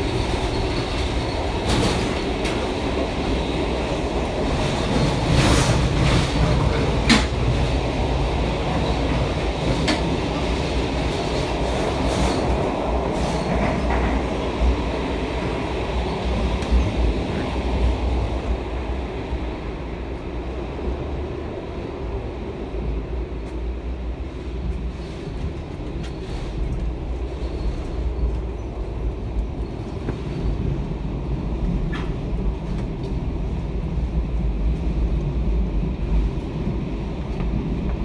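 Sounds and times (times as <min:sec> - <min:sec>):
train rumbling on track: 0:00.0 - 0:38.0.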